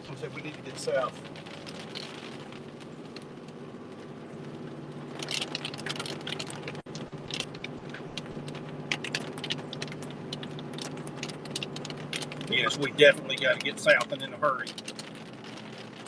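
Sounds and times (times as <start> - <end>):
rain ticking on a vehicle: 0.0 - 16.0
vehicle interior hum: 0.0 - 16.0.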